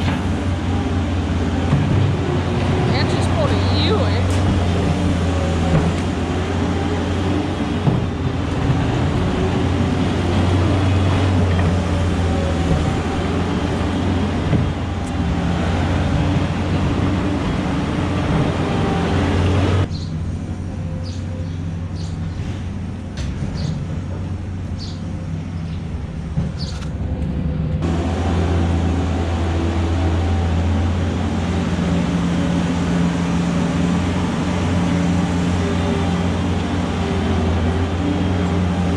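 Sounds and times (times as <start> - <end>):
machinery engine humming: 0.0 - 38.9.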